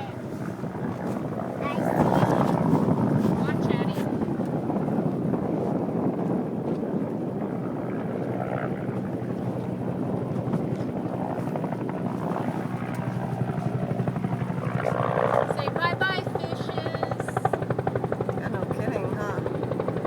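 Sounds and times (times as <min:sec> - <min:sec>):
wind noise on microphone: 0:00.0 - 0:17.7
helicopter rotor chopping: 0:00.0 - 0:20.0.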